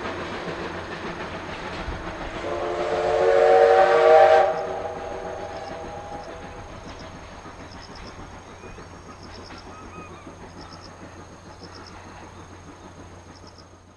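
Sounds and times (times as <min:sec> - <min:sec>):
steam train rumble: 0:00.0 - 0:13.9.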